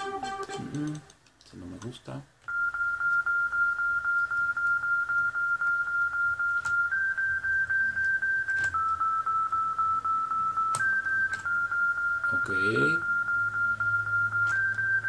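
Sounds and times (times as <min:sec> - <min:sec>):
pulsing synth beep: 0:02.5 - 0:15.0.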